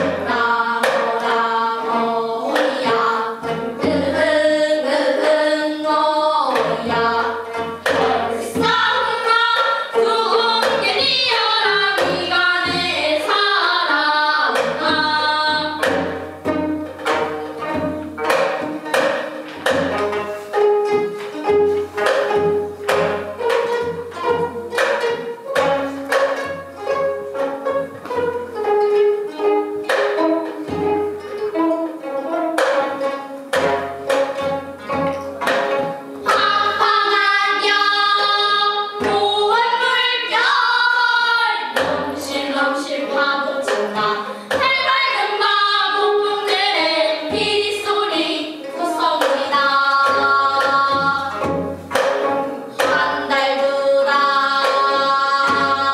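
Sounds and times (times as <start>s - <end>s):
young voices singing together: 0.0s - 33.3s, 34.1s - 55.9s
plucked zither strings: 6.5s - 55.9s.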